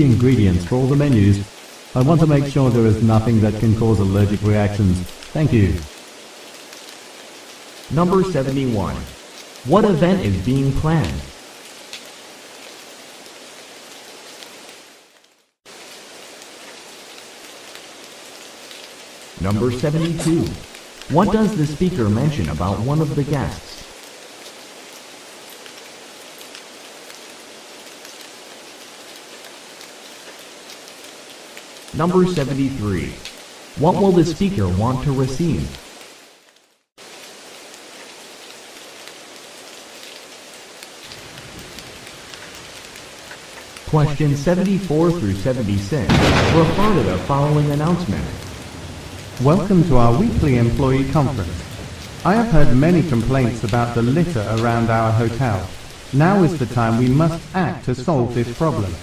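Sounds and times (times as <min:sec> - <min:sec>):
steady rain-like hiss: 0:00.0 - 0:59.0.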